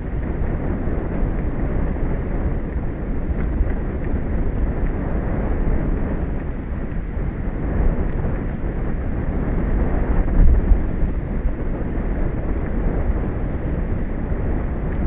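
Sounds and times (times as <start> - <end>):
ocean roar: 0.0 - 15.0
wind buffeting microphone: 0.0 - 15.0.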